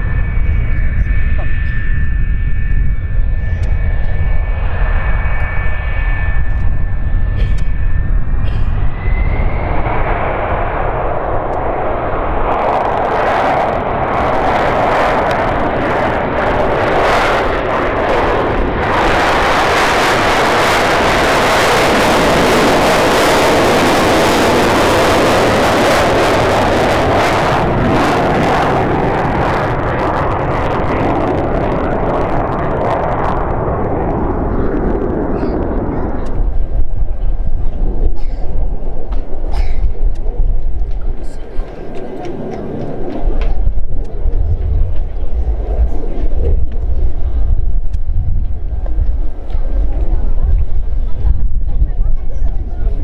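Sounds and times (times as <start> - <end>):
jet engines whining and roaring: 0.0 - 53.0.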